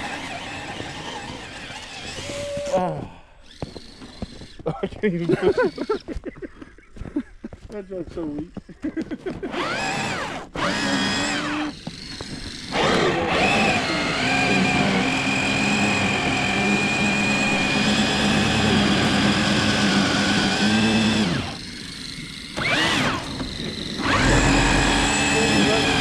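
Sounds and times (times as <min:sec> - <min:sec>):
toy truck motors whining: 0:00.0 - 0:06.3, 0:09.2 - 0:26.0.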